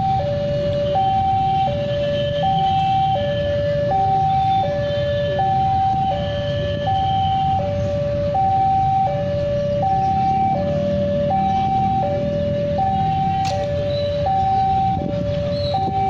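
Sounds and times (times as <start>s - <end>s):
two-tone level crossing alarm: 0.0s - 16.0s.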